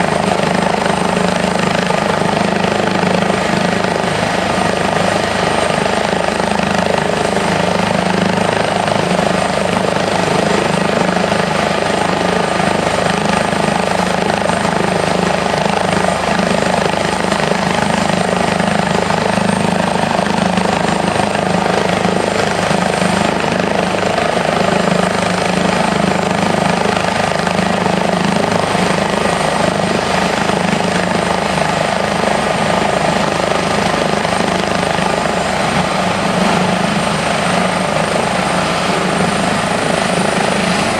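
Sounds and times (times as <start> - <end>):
helicopter rotor and engines: 0.0 - 40.9
high turbine whine: 0.0 - 40.9.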